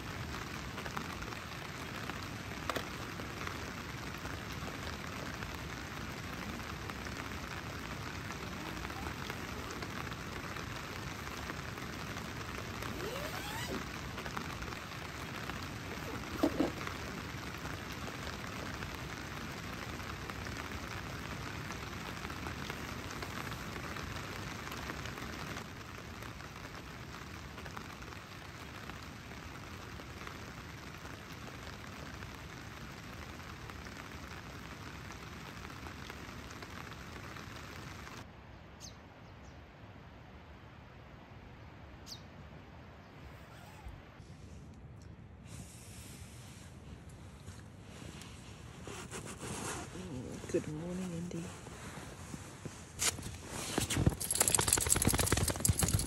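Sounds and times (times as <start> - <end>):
rain pattering on a tent: 0.0 - 38.9, 39.6 - 56.0.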